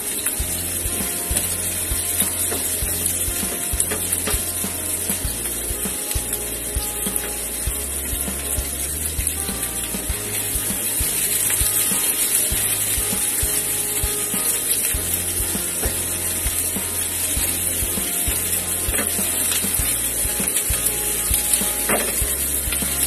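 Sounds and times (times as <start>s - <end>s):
onion sizzling in oil: 0.0s - 23.0s.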